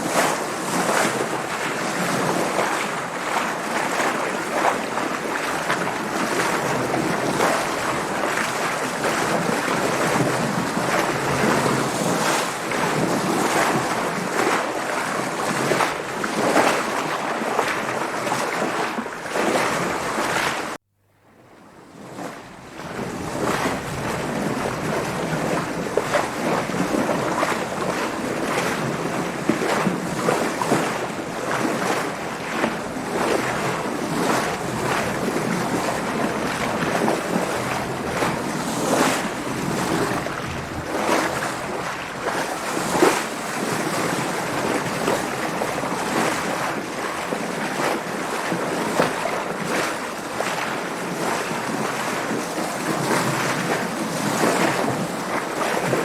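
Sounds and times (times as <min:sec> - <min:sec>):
water splashing against boat: 0:00.0 - 0:20.8, 0:21.6 - 0:56.0
wind: 0:00.0 - 0:56.0.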